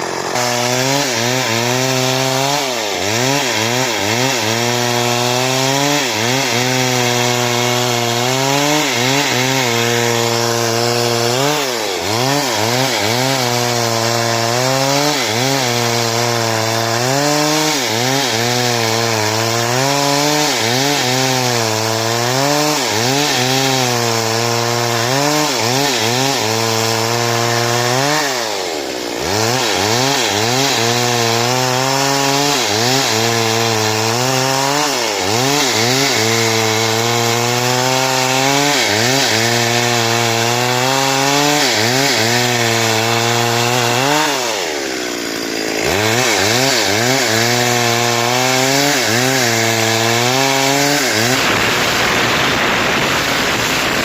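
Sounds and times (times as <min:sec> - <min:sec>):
chainsaw sawing wood: 0:00.0 - 0:54.0.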